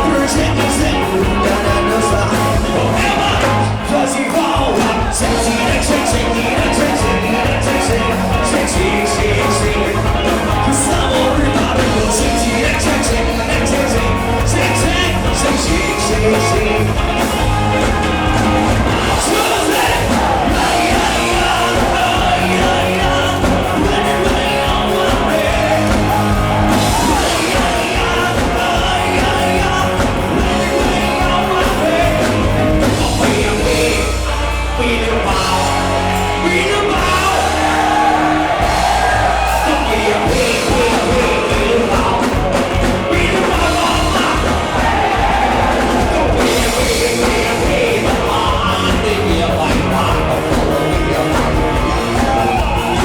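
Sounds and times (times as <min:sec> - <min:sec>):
live rock band playing: 0:00.0 - 0:53.0
man singing: 0:00.0 - 0:53.0.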